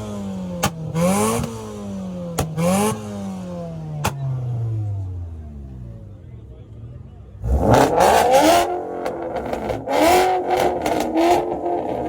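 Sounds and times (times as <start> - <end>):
car engine revving: 0.0 - 6.2, 7.3 - 12.0.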